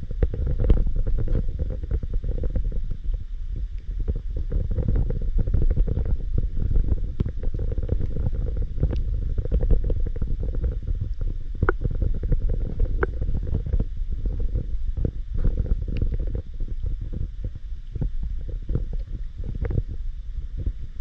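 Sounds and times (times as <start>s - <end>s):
small clicks and crackles: 0.0s - 21.0s
underwater rumble of moving water: 0.0s - 21.0s.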